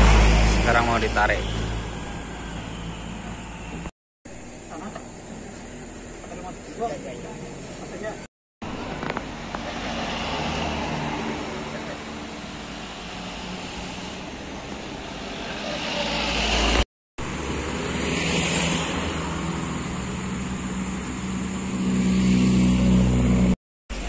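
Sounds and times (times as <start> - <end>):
vehicles passing on road: 0.0 - 24.0.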